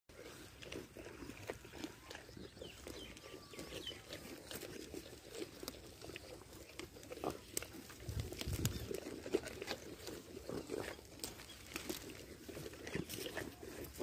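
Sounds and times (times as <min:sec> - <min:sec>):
goats chewing grass: 0:00.1 - 0:14.0.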